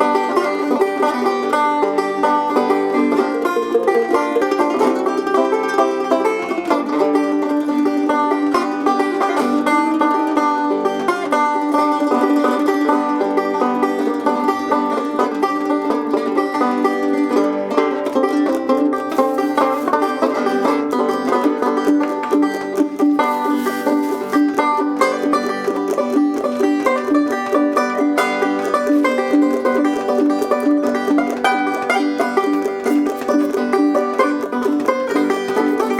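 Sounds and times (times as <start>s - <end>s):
banjo bluegrass music: 0.0s - 35.9s.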